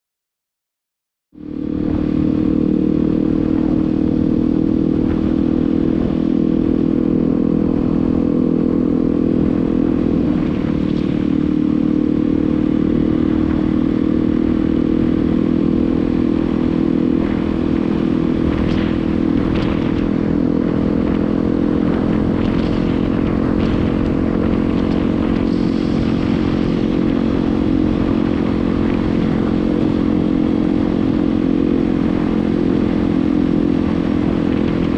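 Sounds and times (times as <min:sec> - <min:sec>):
motorcycle engine running: 0:01.4 - 0:34.9.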